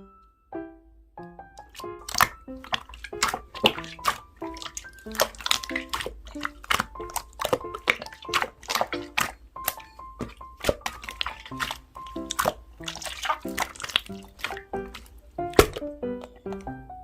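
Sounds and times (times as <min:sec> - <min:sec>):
wet clicks and pops: 0:01.2 - 0:17.0
slime squished by hand: 0:01.5 - 0:16.8.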